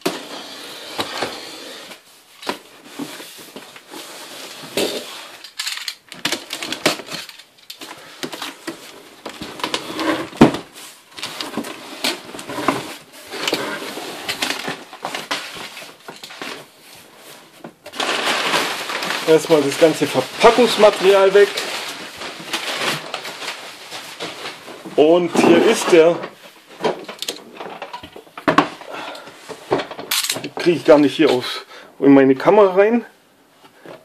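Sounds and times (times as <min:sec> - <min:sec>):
packing paper rustling: 0:00.0 - 0:27.6.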